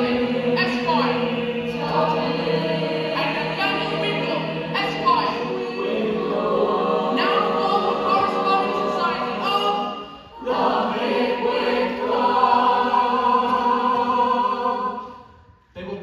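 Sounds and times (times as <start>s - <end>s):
choir singing in harmony: 0.0s - 15.5s.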